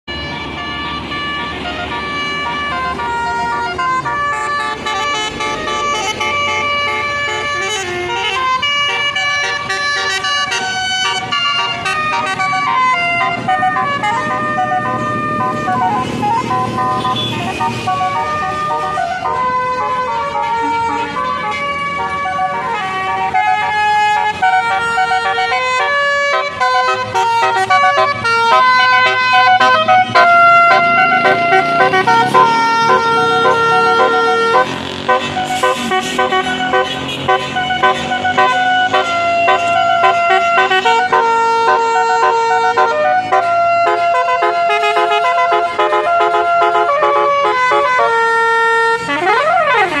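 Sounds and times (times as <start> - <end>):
bus horns playing a tune: 0.1 - 50.0.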